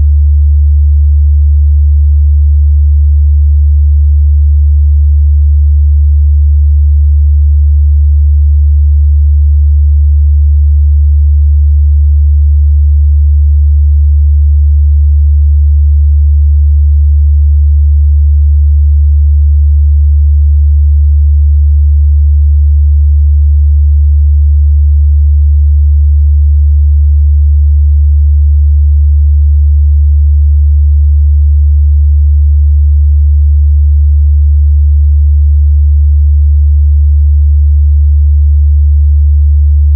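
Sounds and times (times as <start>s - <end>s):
deep sine test tone: 0.0s - 36.9s, 38.2s - 39.9s.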